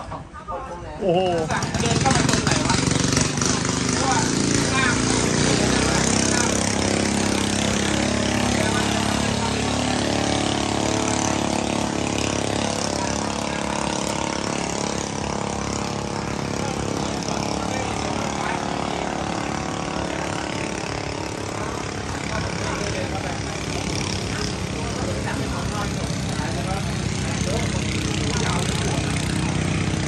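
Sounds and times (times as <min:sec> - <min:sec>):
engine running: 0:01.0 - 0:30.0.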